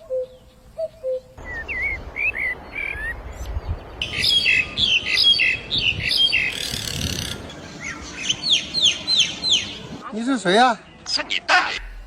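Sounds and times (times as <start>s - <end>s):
harsh squawking bird calls: 0.0s - 10.0s.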